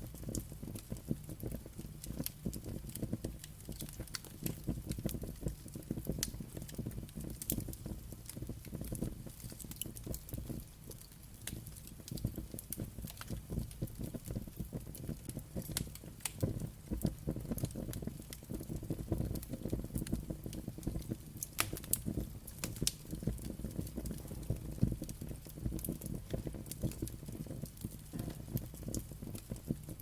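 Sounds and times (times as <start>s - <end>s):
low rumble of flames: 0.0s - 30.0s
sharp pops and snaps: 0.0s - 30.0s
wood fire crackling: 0.0s - 30.0s.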